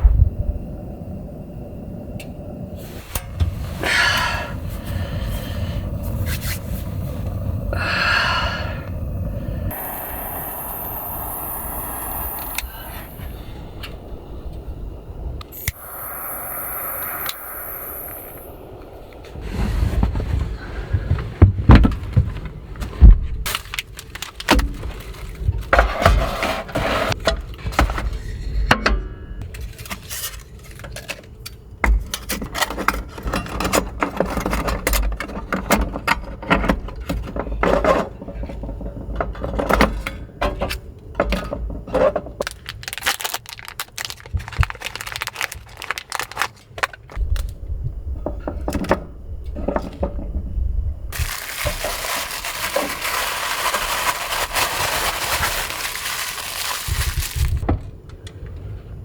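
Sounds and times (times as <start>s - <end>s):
continuous low rumble: 0.0s - 59.0s.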